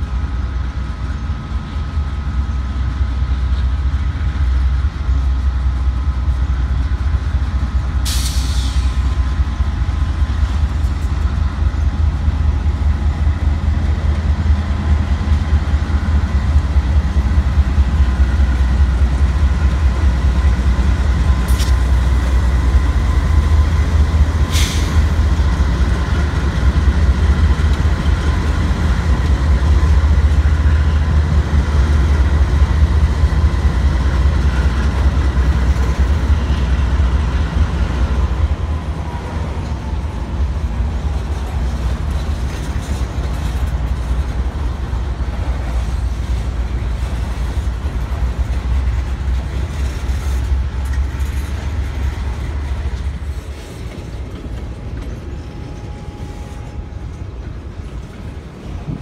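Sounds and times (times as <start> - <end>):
locomotive engine rumble: 0.0 - 59.0.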